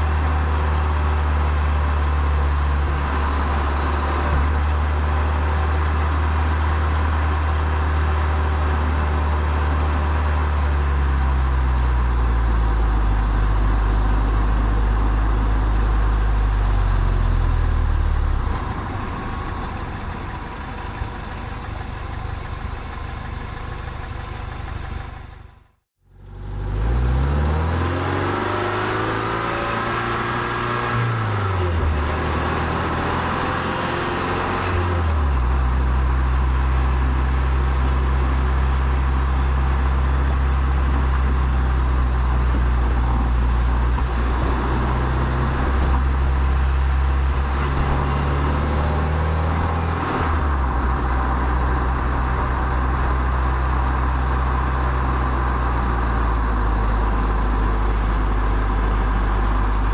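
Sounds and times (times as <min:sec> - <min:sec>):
car engine running: 0:00.0 - 0:59.9
road and wind noise: 0:00.0 - 0:59.9.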